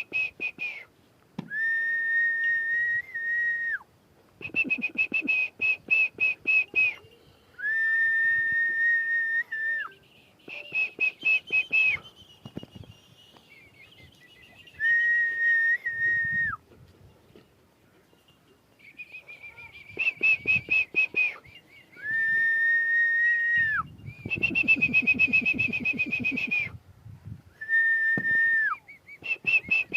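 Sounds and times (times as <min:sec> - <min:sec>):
person whistling: 0:00.0 - 0:00.9, 0:01.5 - 0:03.8, 0:04.4 - 0:13.4, 0:14.4 - 0:16.6, 0:18.9 - 0:26.8, 0:27.6 - 0:29.9.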